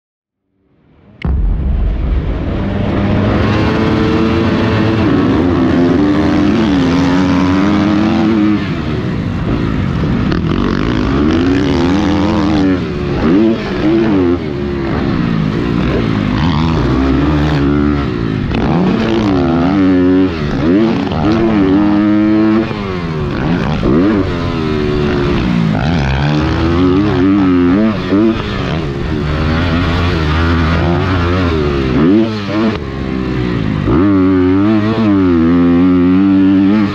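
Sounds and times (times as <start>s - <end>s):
dirt bike engine revving: 1.2s - 36.9s.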